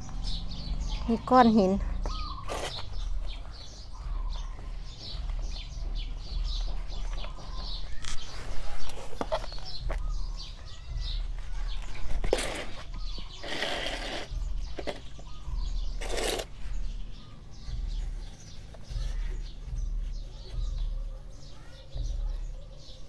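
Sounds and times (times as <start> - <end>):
small birds chirping: 0.0 - 23.0
plastic pots knocking and rustling: 1.5 - 21.0.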